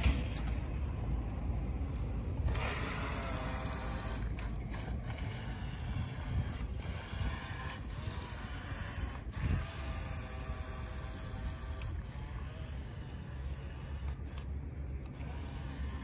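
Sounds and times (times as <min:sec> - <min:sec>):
toy boat motor whine: 0:02.5 - 0:16.0.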